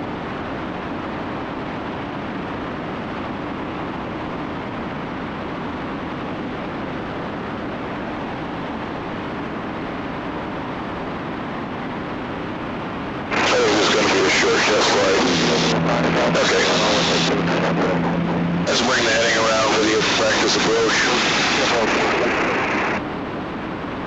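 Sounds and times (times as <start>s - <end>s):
twin aircraft engines droning: 0.0s - 24.0s.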